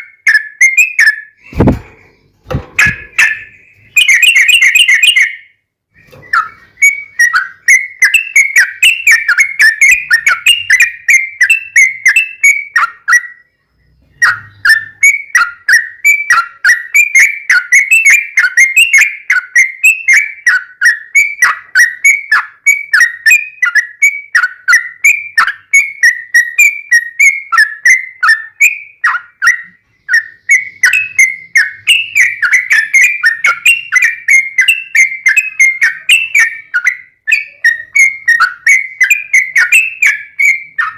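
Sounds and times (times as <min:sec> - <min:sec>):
bulbul singing chirping notes: 0:00.0 - 0:40.9.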